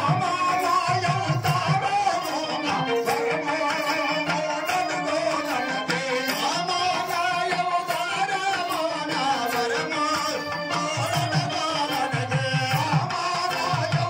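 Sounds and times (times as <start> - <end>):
drums keeping quick rhythm: 0.0 - 14.0
keyboard melody: 0.0 - 14.0.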